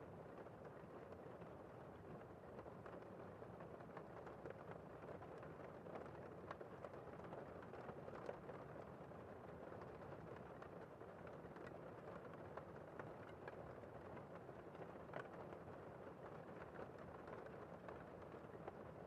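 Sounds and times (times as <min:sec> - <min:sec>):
faint steady rain: 0:00.0 - 0:19.0.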